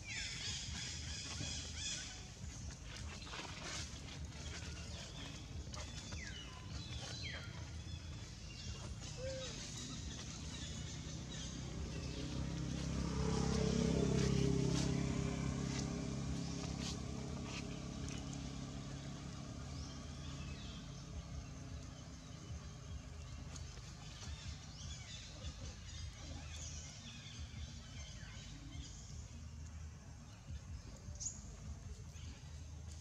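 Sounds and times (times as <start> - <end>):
faint outdoor ambience: 0.0 - 33.0
vehicle engine passing by: 0.0 - 33.0.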